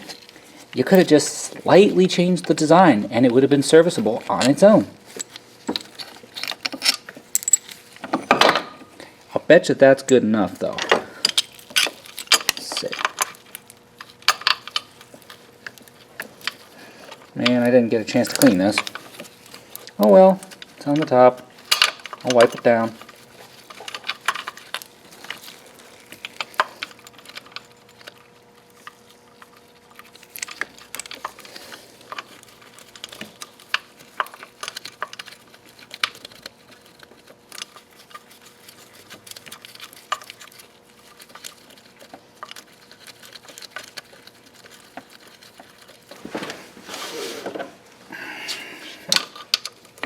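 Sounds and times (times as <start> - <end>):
metal parts and tools clicking: 4.0 - 8.8, 10.6 - 46.1.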